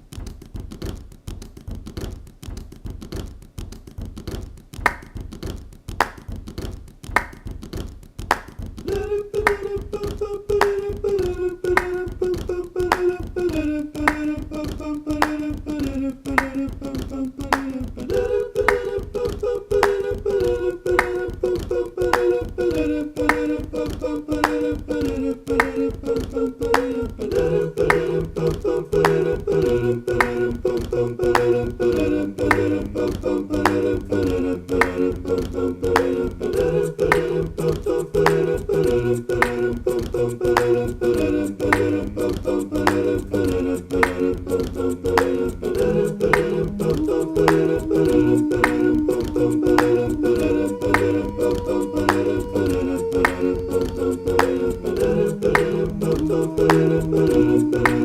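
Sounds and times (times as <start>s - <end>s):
background music with beat: 0.0s - 58.0s
held stepping melody: 0.0s - 58.0s.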